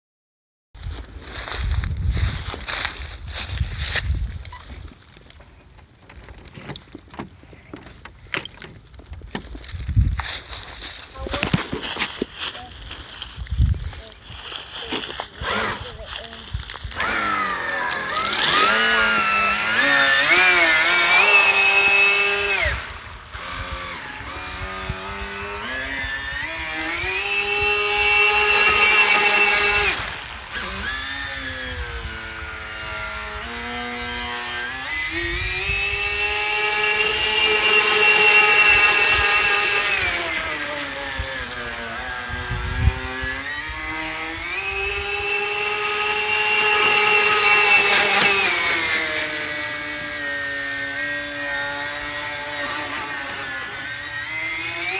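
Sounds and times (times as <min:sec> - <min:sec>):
electric motor whining: 0:06.2 - 0:54.9.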